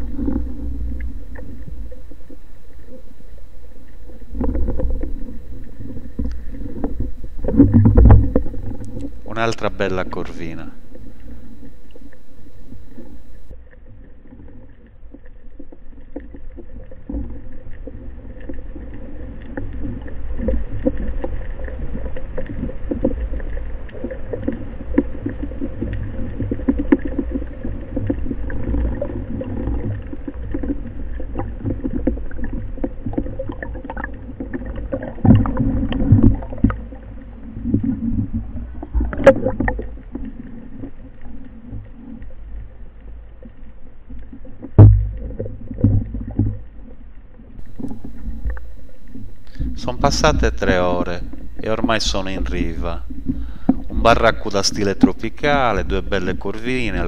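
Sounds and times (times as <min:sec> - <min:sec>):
underwater rush of water: 0:00.0 - 0:42.8, 0:47.6 - 0:57.0
underwater clicks and crackles: 0:00.0 - 0:57.0.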